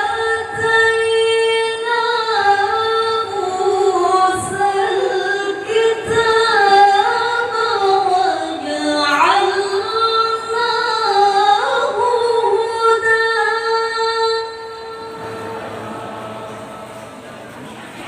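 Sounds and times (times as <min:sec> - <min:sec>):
person chanting recitation: 0:01.4 - 0:17.8.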